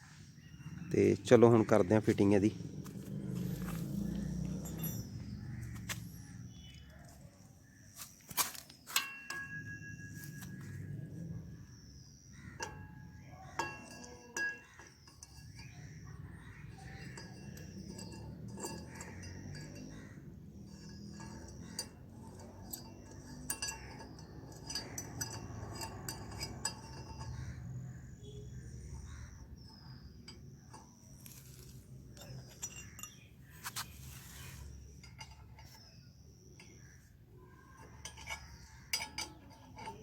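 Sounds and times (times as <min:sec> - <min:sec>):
spanner clinking on metal: 0:00.6 - 0:07.3, 0:08.0 - 0:40.0.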